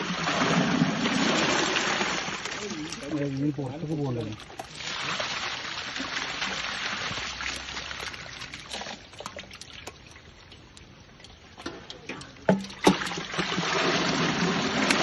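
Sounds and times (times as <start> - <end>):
water splashing into basin: 0.0 - 15.0.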